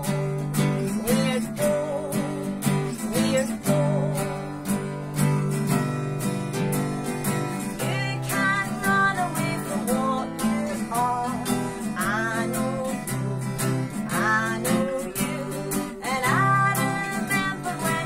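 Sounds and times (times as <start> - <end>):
woman singing: 0.0 - 5.0, 7.6 - 18.0
acoustic guitar strumming: 0.0 - 18.0.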